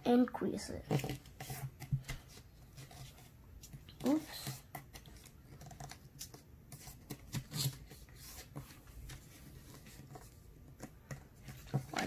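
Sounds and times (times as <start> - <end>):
paper rustling and crinkling: 0.9 - 12.0.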